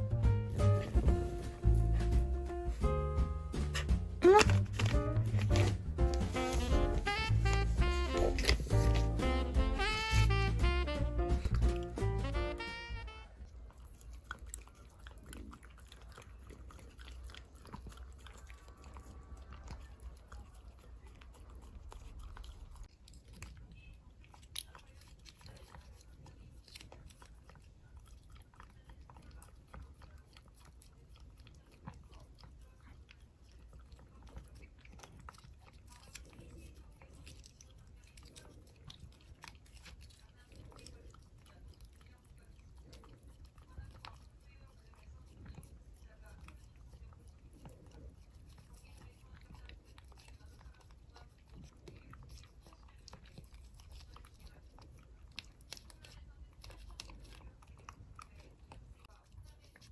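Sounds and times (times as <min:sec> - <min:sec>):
dog licking and chewing: 0:00.0 - 0:59.9.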